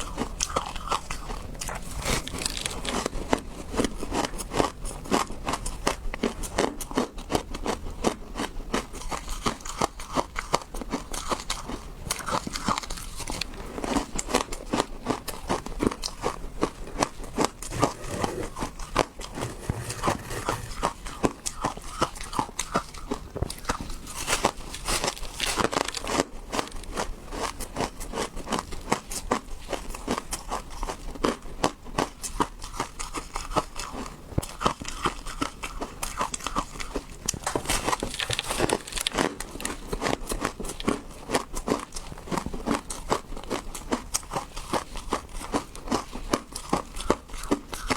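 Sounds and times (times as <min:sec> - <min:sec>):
ice crunching while chewed: 0:00.0 - 0:47.9.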